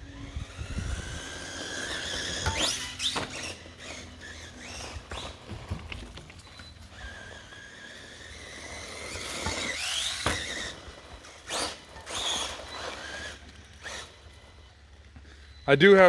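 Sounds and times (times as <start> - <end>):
toy truck motor whining: 0.0 - 16.0.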